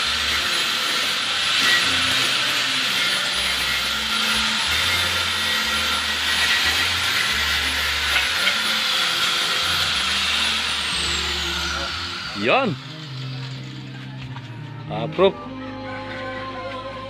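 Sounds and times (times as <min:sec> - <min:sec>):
power tool motor whirring: 0:00.0 - 0:14.4.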